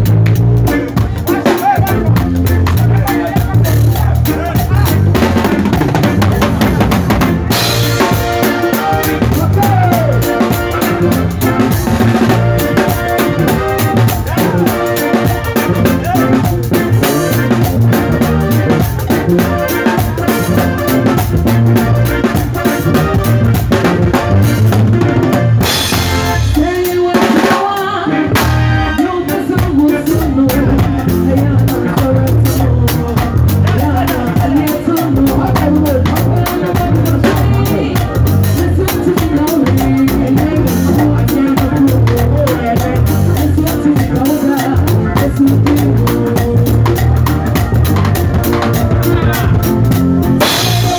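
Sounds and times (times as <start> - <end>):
bass guitar: 0.0 - 50.9
drum kit groove: 0.0 - 50.9
keyboard: 0.0 - 50.9.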